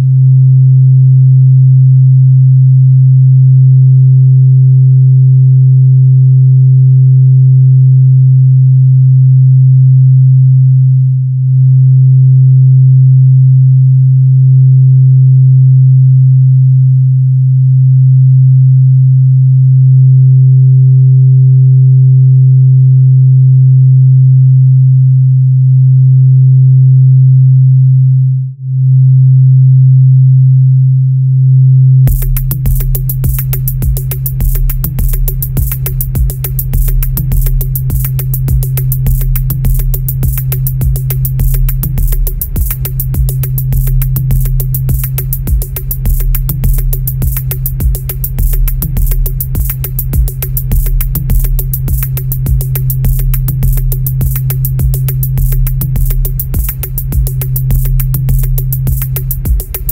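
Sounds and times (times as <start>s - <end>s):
low electronic drone: 10.7s - 59.9s.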